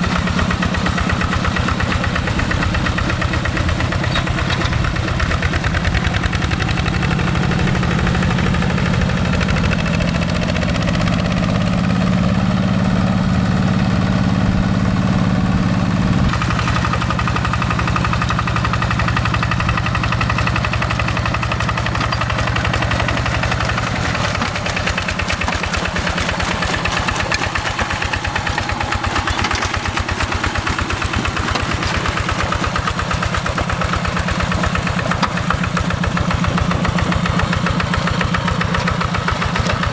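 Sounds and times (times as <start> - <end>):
diesel tractor engine knocking: 0.0 - 39.9.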